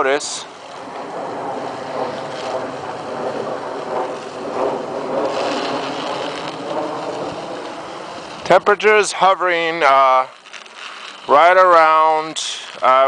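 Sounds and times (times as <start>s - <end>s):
bicycle tyres rolling on icy road: 0.0s - 13.0s
wind on microphone: 0.0s - 13.0s.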